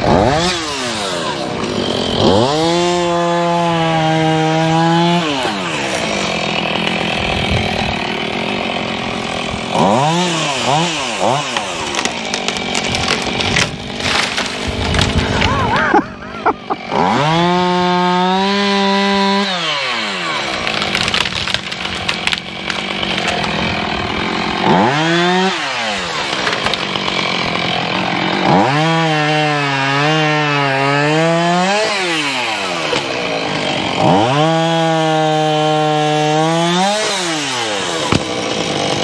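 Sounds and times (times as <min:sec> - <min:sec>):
chainsaw cutting wood: 0:00.0 - 0:39.0
small chainsaw revving: 0:00.0 - 0:39.0.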